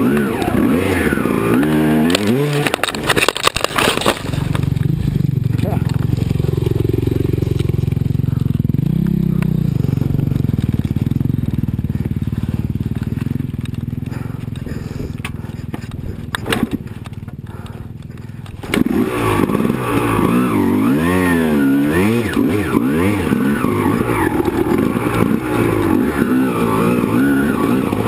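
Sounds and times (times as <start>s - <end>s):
two-stroke motorbike engine revving: 0.0s - 28.0s.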